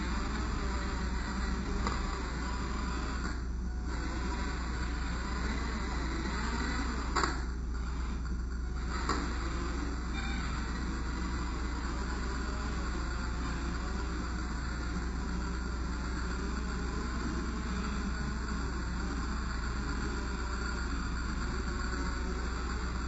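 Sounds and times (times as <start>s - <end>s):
constant hiss: 0.0s - 23.0s
toy truck motor humming: 0.0s - 23.0s.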